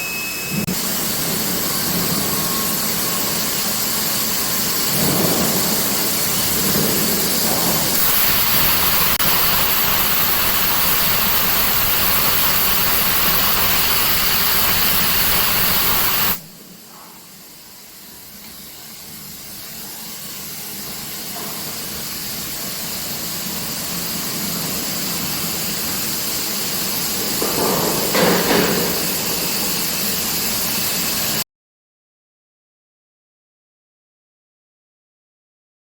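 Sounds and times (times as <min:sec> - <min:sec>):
loud steady hissing: 0:00.0 - 0:31.4.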